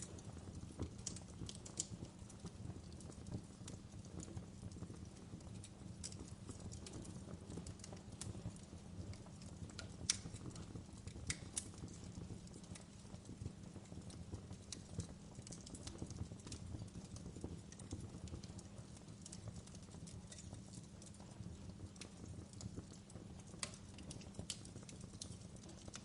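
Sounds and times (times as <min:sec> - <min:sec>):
fire pops and snaps: 0:00.0 - 0:26.0
low rumble of burning fire: 0:00.0 - 0:26.0.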